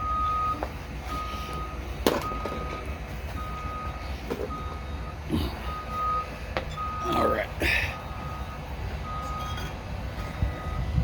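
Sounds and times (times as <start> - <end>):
reversing alarm beeping: 0.0 - 11.0.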